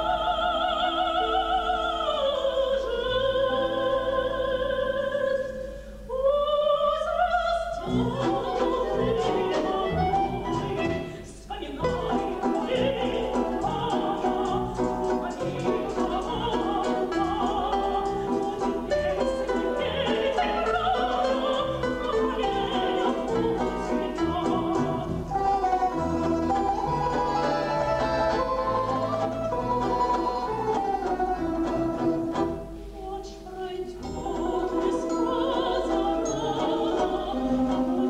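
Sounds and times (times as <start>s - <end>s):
woman singing operatically: 0.0s - 38.0s
folk instrument ensemble: 7.2s - 38.0s.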